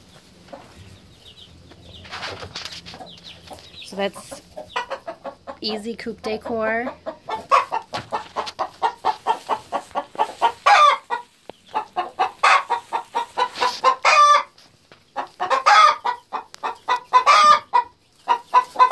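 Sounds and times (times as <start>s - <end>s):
hen cackling and squawking: 0.4s - 18.9s.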